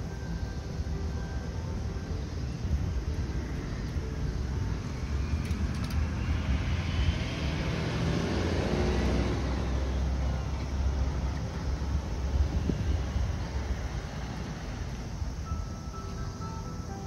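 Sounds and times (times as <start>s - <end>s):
rush of noise: 0.0s - 16.5s
vehicle engine rumble: 0.0s - 17.0s.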